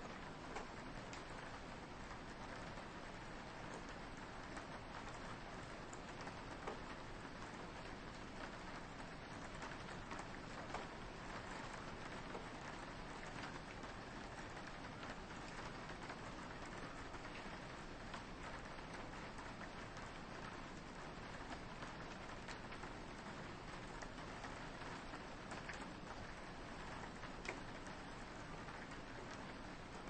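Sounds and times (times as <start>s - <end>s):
rain on a window: 0.0s - 30.0s.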